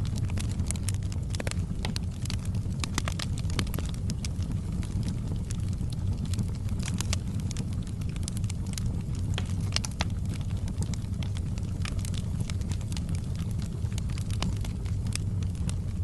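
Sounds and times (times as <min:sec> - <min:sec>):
sharp pops and snaps: 0:00.0 - 0:15.9
low rumble of burning fire: 0:00.0 - 0:16.0
wood fire crackling: 0:00.0 - 0:16.0.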